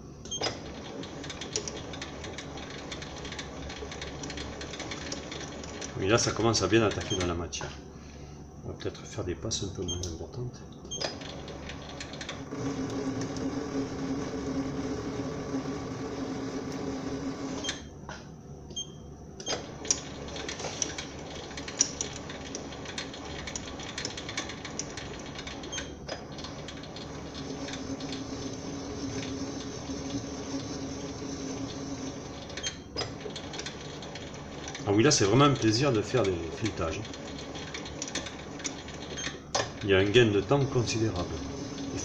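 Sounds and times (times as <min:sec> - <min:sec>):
lathe motor and spindle hum: 0:00.0 - 0:07.9, 0:08.5 - 0:18.0, 0:19.4 - 0:42.0.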